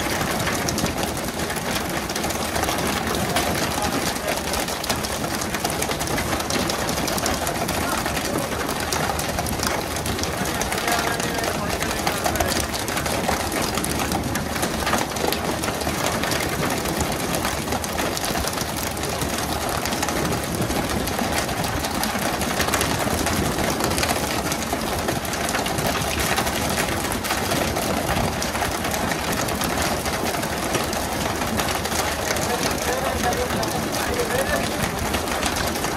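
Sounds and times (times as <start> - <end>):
small knocks and clatter: 0.0 - 35.9.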